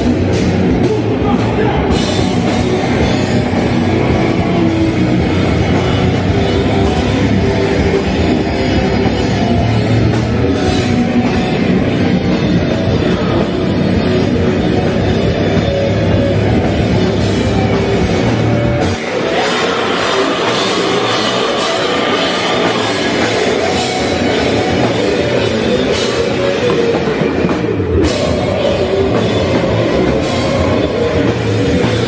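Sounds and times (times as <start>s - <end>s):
bass guitar: 0.0s - 32.0s
distorted electric guitar: 0.0s - 32.0s
drum kit: 0.0s - 32.0s.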